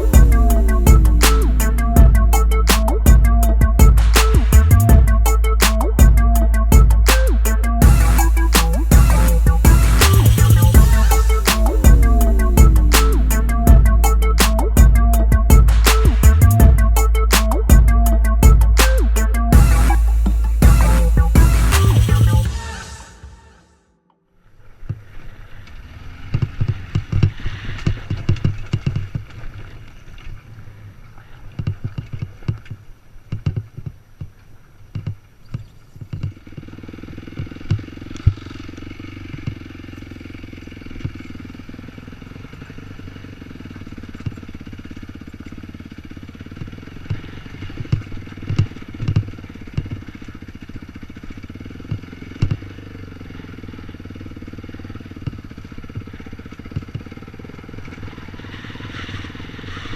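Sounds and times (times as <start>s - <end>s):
dirt bike engine running: 0.0s - 23.4s, 25.0s - 31.1s, 34.0s - 59.9s.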